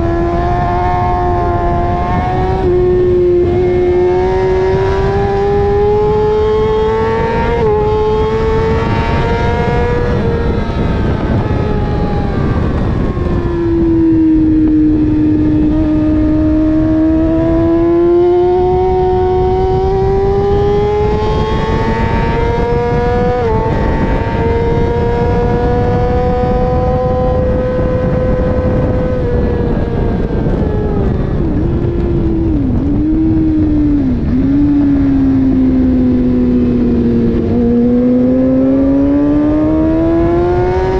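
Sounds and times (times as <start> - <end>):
motorcycle engine running hard: 0.0 - 40.9
wind rushing: 0.0 - 40.9.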